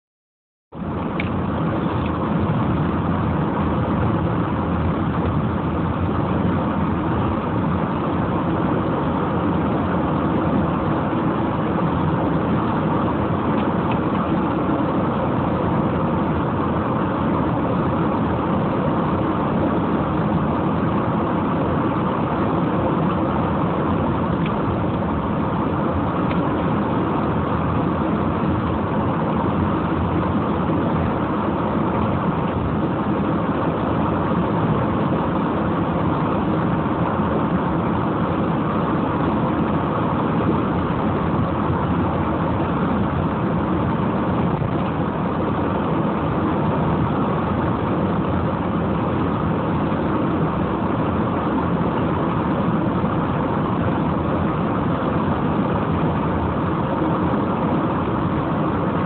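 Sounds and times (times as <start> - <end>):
car driving on paved road: 0.8 - 59.0.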